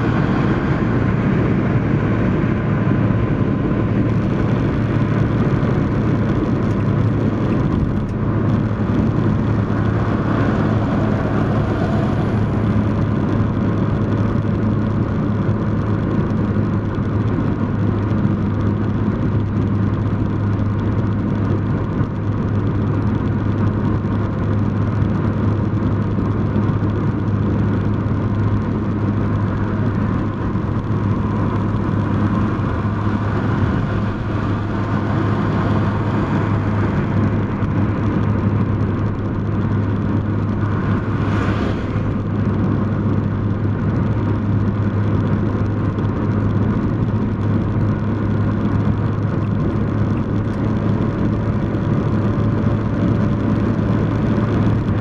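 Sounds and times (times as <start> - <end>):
car engine and tyre road noise: 0.0 - 55.0.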